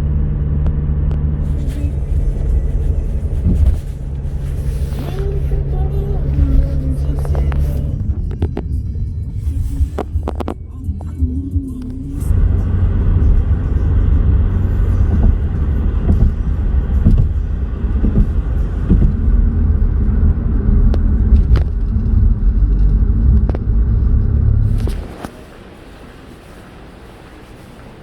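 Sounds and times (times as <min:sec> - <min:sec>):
moving vehicle rumble: 0:00.0 - 0:28.0.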